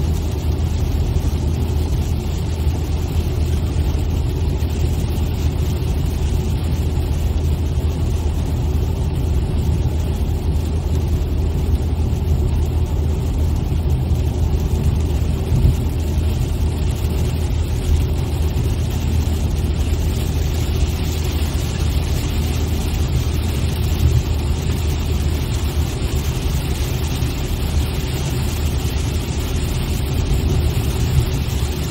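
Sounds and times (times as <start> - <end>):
car road and engine noise: 0.0 - 31.9.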